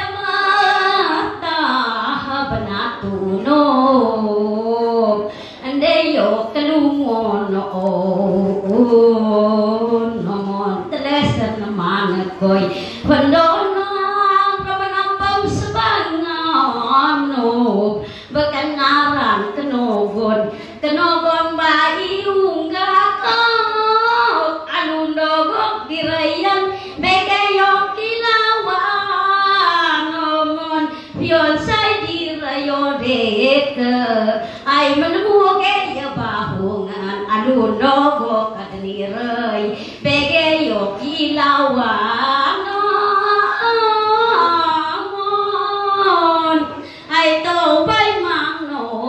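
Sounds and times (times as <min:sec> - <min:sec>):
woman chanting: 0:00.0 - 0:49.0.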